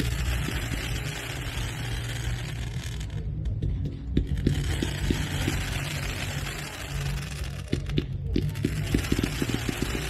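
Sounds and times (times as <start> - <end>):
fireworks thuds: 0.0 - 10.0
steady low rumble: 0.0 - 10.0.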